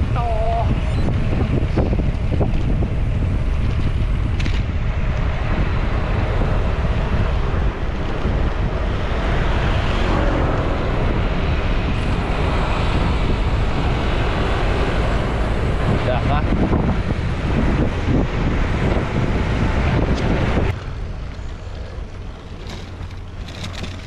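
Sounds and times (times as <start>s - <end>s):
road traffic: 0.0s - 24.0s
wind rumble on microphone: 0.0s - 24.0s
vehicle passing: 2.4s - 24.0s.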